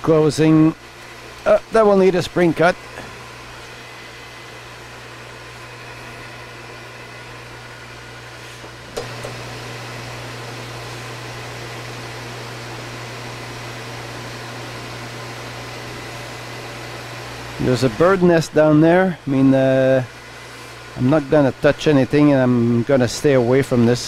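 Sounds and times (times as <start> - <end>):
metal lathe humming: 0.0 - 23.9.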